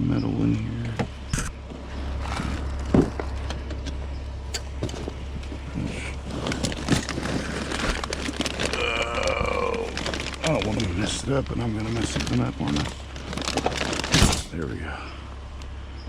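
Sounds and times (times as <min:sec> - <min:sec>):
steady low rumble: 0:00.0 - 0:16.0
items being rummaged through: 0:01.6 - 0:14.7.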